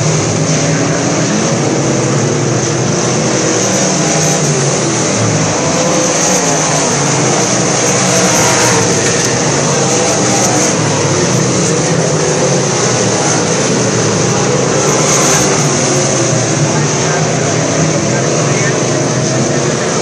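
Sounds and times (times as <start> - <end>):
race car engines roaring: 0.0 - 20.0.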